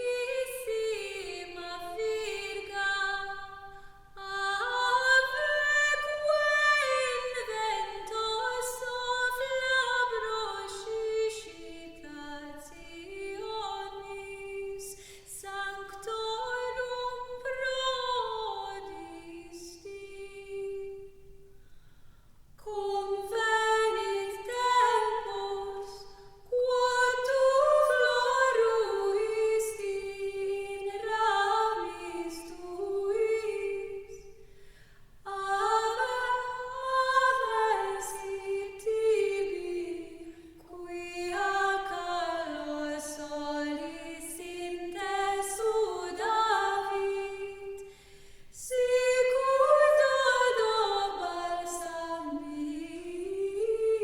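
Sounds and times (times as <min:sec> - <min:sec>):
woman singing: 0:00.0 - 0:21.5, 0:22.6 - 0:34.4, 0:35.2 - 0:47.9, 0:48.5 - 0:54.0.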